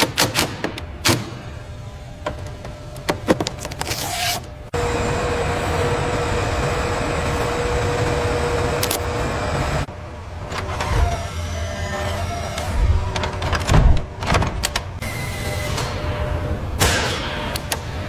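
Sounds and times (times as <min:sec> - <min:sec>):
machine motor whirring hum: 0:00.8 - 0:18.0.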